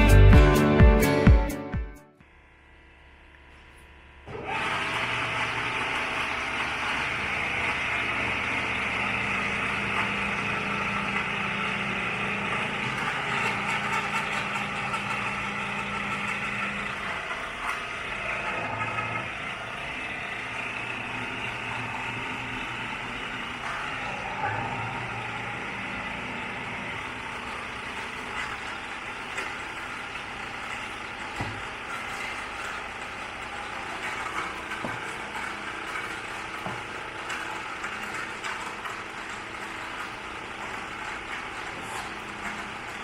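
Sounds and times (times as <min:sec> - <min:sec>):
lathe humming and whirring: 0:02.2 - 0:43.0.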